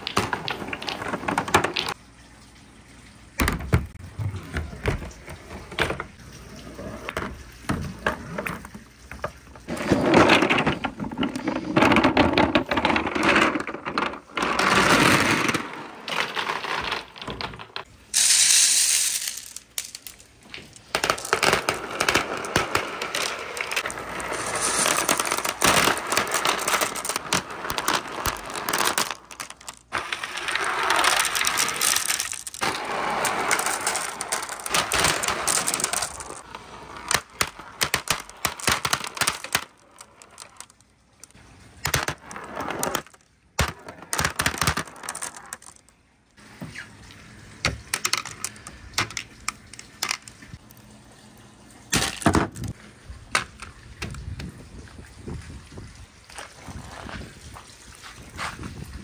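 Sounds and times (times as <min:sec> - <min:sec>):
marbles clattering down wooden run: 0:00.0 - 0:02.0, 0:03.4 - 0:45.9, 0:47.6 - 0:50.6.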